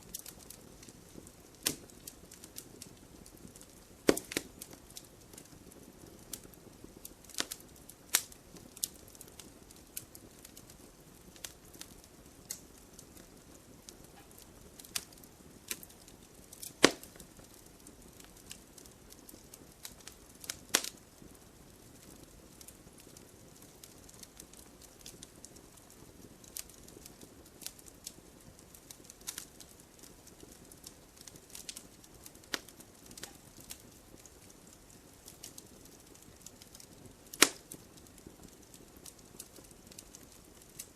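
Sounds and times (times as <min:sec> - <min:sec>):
soft low hiss of fire: 0:00.0 - 0:40.9
wood fire crackling and popping: 0:00.0 - 0:40.9.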